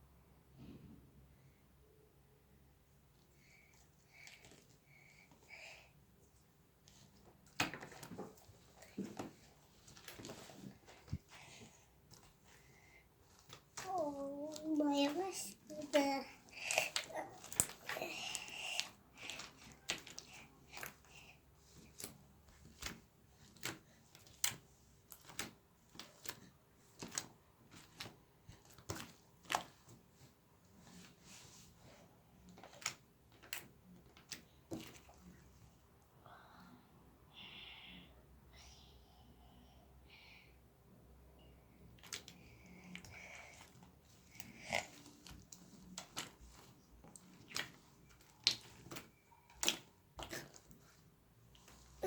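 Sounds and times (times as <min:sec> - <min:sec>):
slime squelching: 0:03.2 - 0:36.1, 0:41.7 - 0:52.0.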